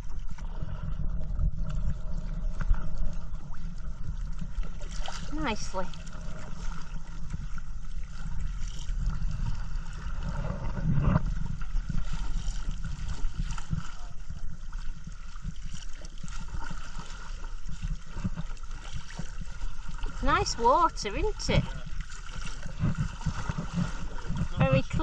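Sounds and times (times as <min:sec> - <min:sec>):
low rumble: 0:00.0 - 0:25.0
water splashing around kayak: 0:00.0 - 0:25.0.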